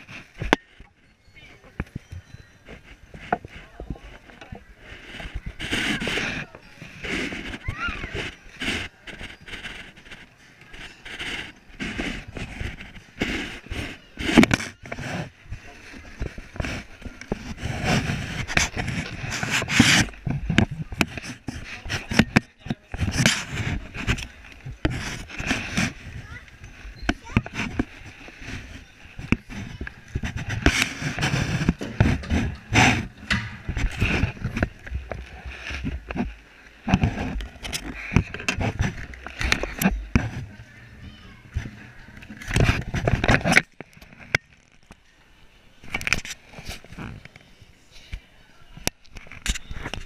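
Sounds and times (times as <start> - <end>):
clothing rustling against camera: 0.0 - 45.1, 45.8 - 50.0.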